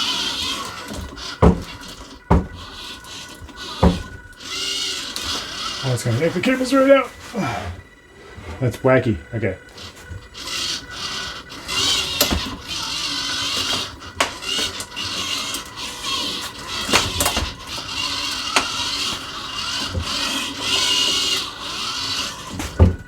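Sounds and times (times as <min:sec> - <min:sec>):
sharp clicks and knocks: 0:00.0 - 0:06.7, 0:09.8 - 0:23.0
robot arm motors whirring: 0:00.0 - 0:23.0.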